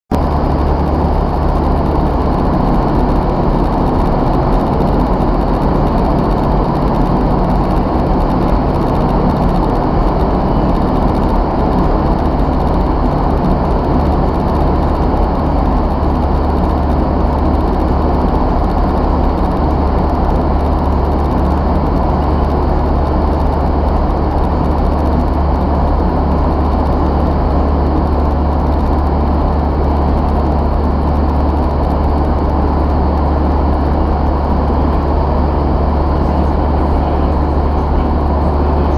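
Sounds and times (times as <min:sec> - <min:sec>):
low fan hum: 0:00.1 - 0:38.9.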